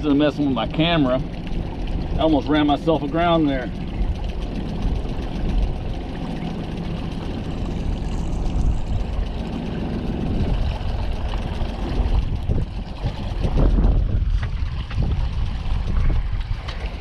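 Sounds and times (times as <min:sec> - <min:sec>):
outboard motor running: 0:00.0 - 0:17.0
water rushing along hull: 0:00.0 - 0:17.0.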